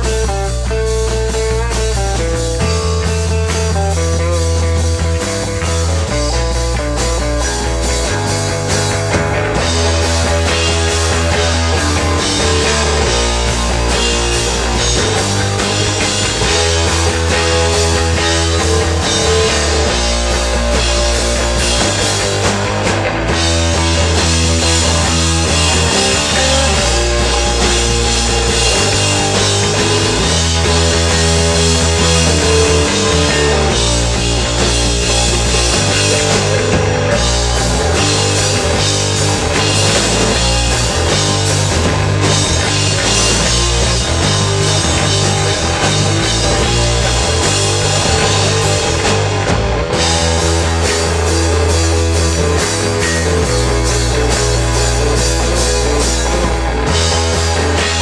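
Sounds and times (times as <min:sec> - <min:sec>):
bass line: 0:00.0 - 0:58.0
rock band playing live: 0:00.0 - 0:58.0.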